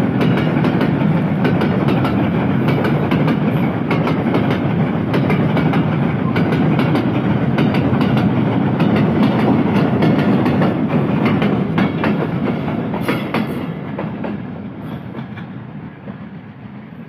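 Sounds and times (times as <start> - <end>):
train wheels rumbling on rails: 0.0 - 17.0
wheels clicking over rail joints: 0.2 - 14.4.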